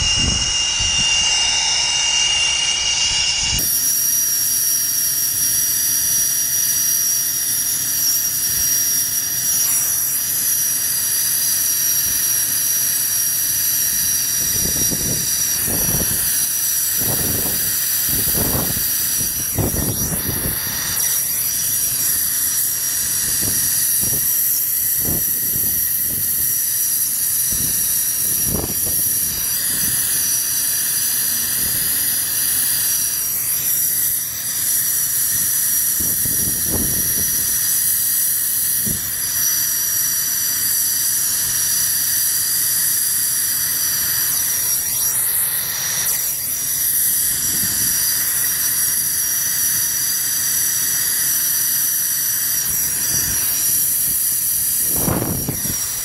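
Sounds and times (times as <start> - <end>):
torch flame hissing: 0.0 - 56.0.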